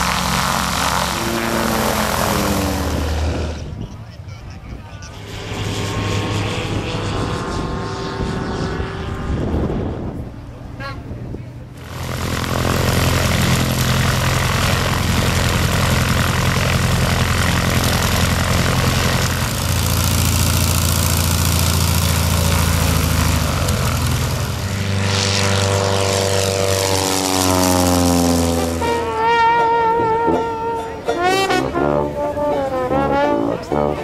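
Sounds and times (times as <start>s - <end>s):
light aircraft engine and propeller: 0.0s - 34.0s.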